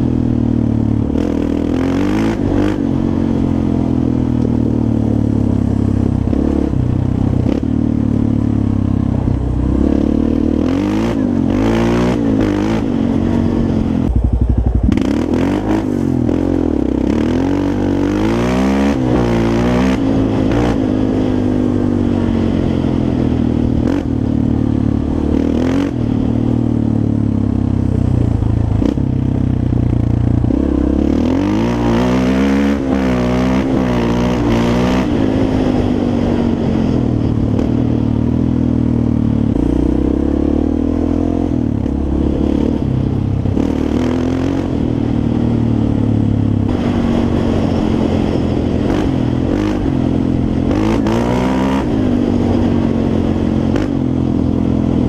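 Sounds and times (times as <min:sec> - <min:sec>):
quad bike engine revving: 0:00.0 - 0:27.0, 0:28.7 - 0:38.4, 0:39.3 - 0:55.0.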